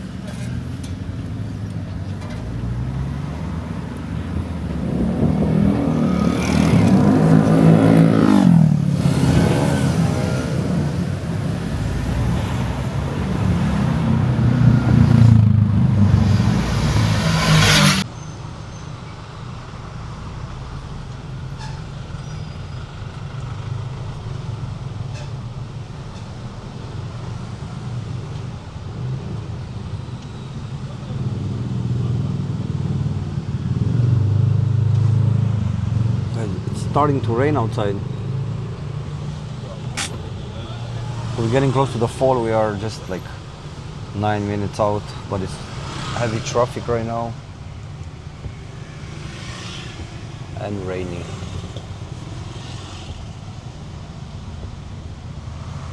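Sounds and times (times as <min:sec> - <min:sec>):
engine and road noise: 0:00.0 - 0:55.9
vehicle engine passing: 0:00.0 - 0:55.9.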